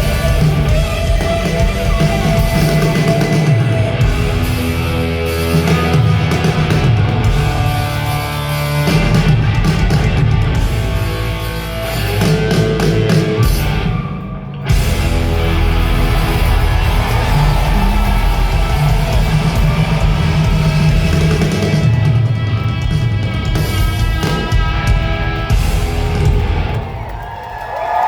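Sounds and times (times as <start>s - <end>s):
distorted electric guitar: 0.0s - 27.1s
live rock band playing: 0.0s - 27.2s
drum kit: 0.0s - 28.0s.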